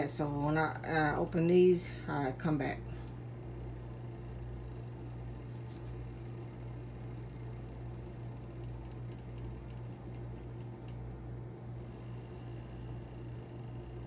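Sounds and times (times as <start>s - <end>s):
low hum with regular throb: 0.0s - 14.0s.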